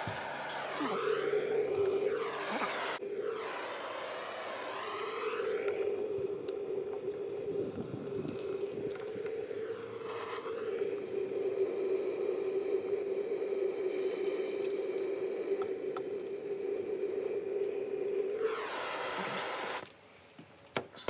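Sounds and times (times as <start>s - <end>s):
gas torch burning: 0.0s - 20.2s.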